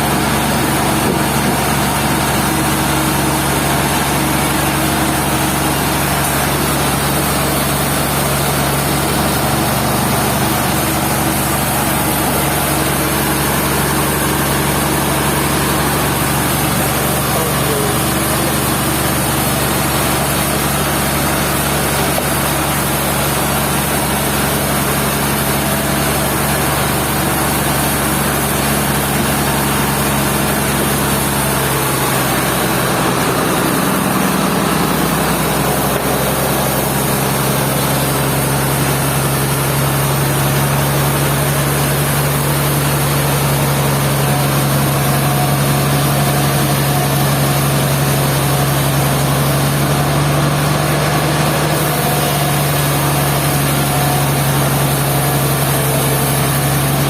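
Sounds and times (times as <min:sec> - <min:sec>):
sawmill machinery engine running: 0:00.0 - 0:57.0.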